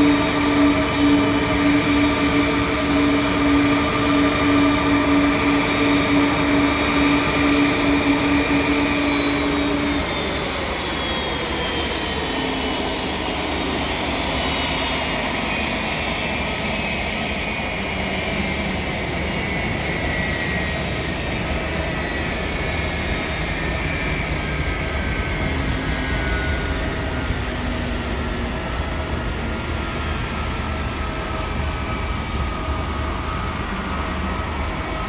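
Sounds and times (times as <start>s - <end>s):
jet engines running while taxiing: 0.0s - 35.0s.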